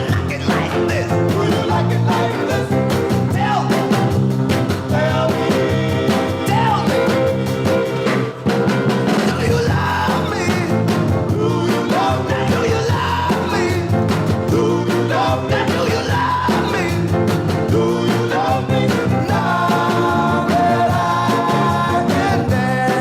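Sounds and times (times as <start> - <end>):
rock music with singing: 0.0 - 23.0.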